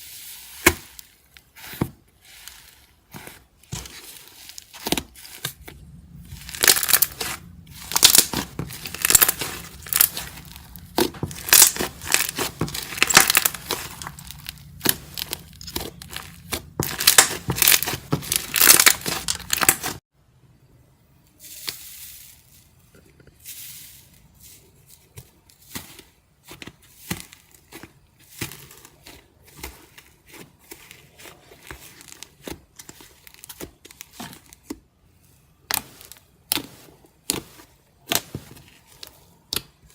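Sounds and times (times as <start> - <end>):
slime crust crackling and crunching: 0.0 - 20.0, 23.4 - 39.9.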